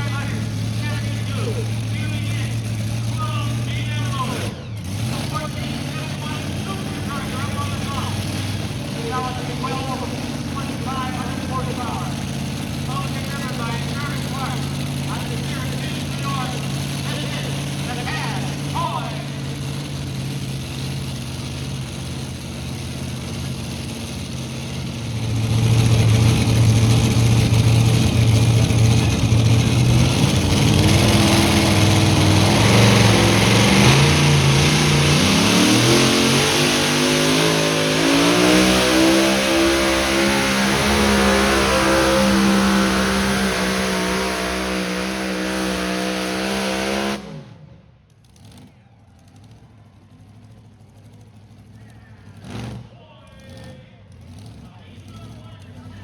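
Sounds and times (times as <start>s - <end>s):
tractor engine running hard: 0.0s - 47.7s.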